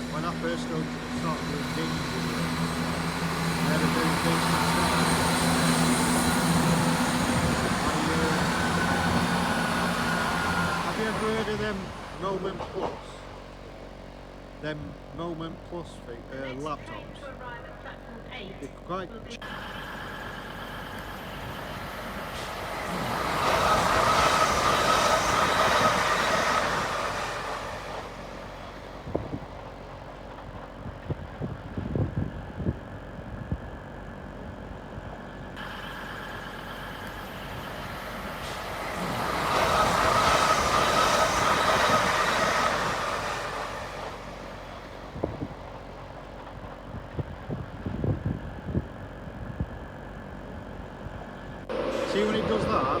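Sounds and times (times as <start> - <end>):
train passing with whine: 0.0 - 18.4, 19.1 - 53.0.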